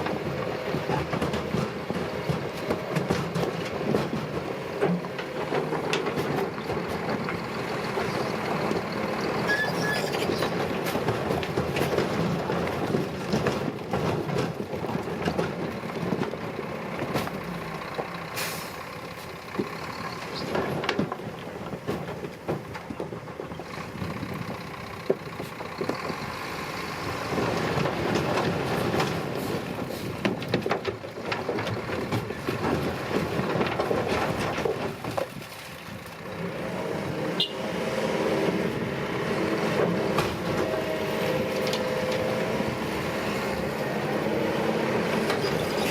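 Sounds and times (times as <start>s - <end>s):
diesel machinery engines: 0.0s - 45.9s.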